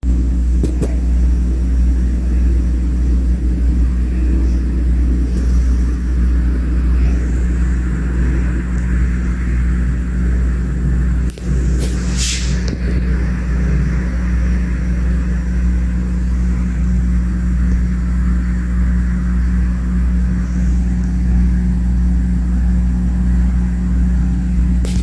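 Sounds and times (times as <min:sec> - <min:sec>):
low rumble with a hum: 0:00.0 - 0:25.0.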